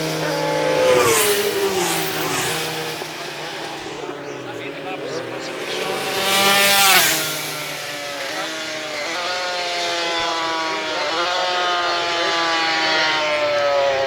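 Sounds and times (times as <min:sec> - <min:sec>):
motorcycle engine accelerating: 0:00.0 - 0:14.0
motorcycle passing by: 0:00.0 - 0:14.0.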